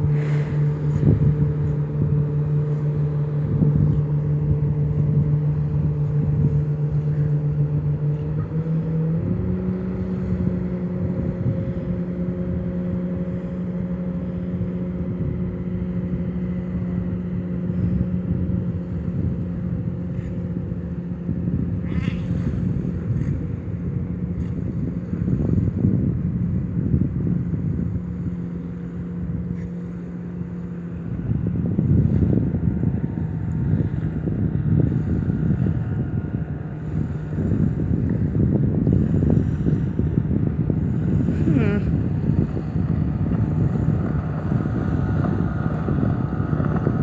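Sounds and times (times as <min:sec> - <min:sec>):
low motor hum: 0:00.0 - 0:47.0.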